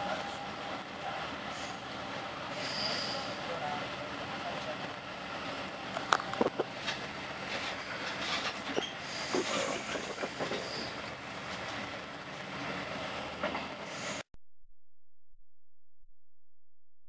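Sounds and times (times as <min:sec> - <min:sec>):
train wheels rumbling on rails: 0:00.0 - 0:14.3.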